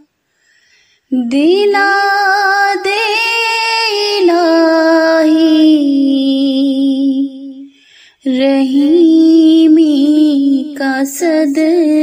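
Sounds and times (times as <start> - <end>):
woman singing: 1.1 - 12.0.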